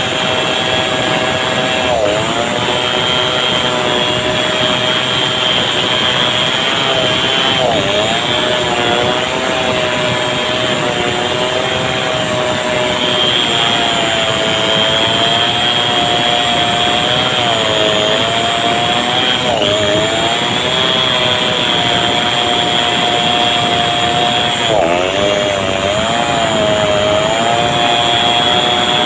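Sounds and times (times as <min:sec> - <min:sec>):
chainsaw cutting tree trunk: 0:00.0 - 0:29.0.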